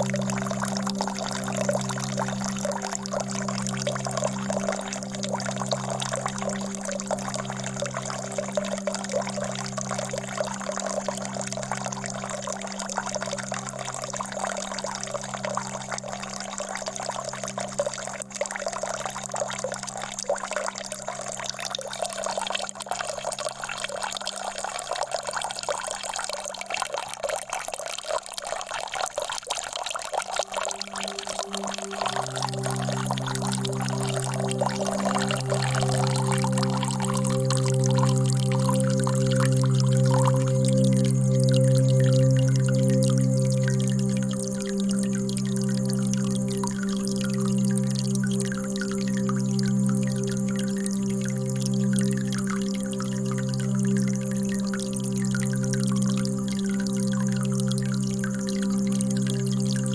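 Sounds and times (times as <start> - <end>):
low pulsing drone: 0.0 - 20.1, 30.3 - 59.9
trickling water: 0.0 - 59.9.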